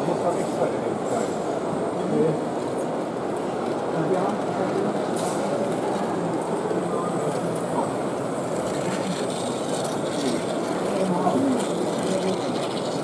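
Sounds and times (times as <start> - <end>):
model train running on track: 0.0 - 13.0
murmur of many voices: 0.0 - 13.0.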